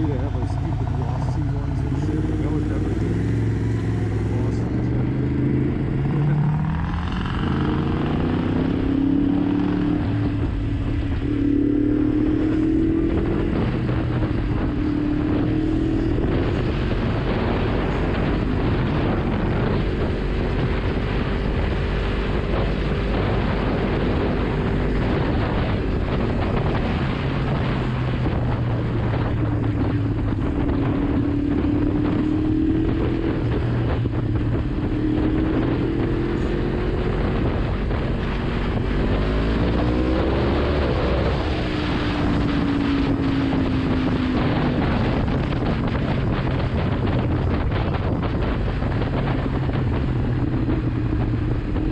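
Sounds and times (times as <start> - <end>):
motorcycle engine revving: 0.0 - 51.9
wind noise on microphone: 0.0 - 51.9.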